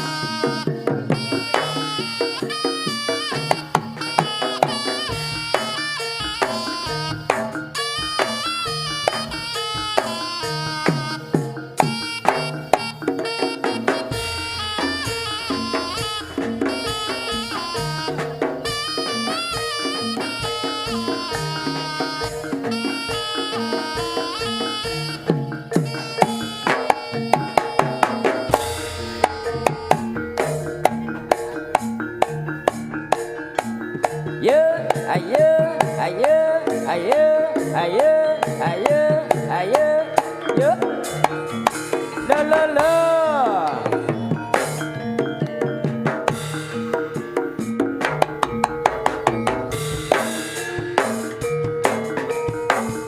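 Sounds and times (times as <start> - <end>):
ringing gong-chimes: 0.0 - 34.4, 40.2 - 53.0
hand drums beating fast: 0.0 - 53.0
steady pitched tones: 0.0 - 53.0.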